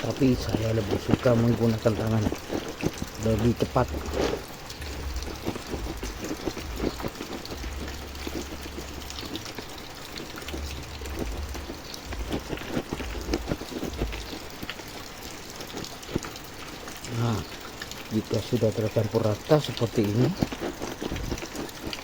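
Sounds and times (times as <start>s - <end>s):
hands stirring moist feed mash: 0.0s - 22.0s.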